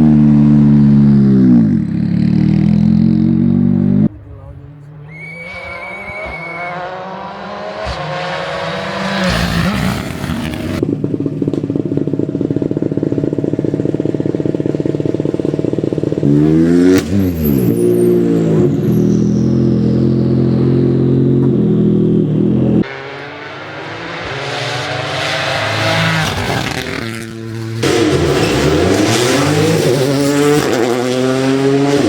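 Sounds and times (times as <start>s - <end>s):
turbocharged engine revving: 0.0s - 32.0s.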